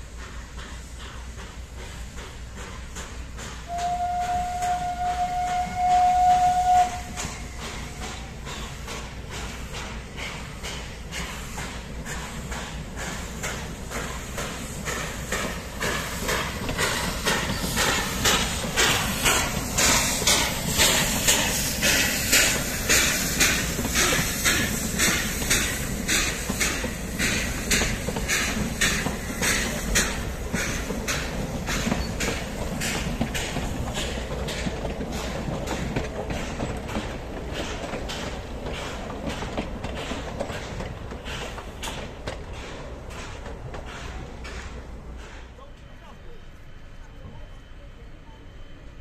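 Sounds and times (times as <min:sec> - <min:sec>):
steam locomotive chuffing: 0:00.0 - 0:49.0.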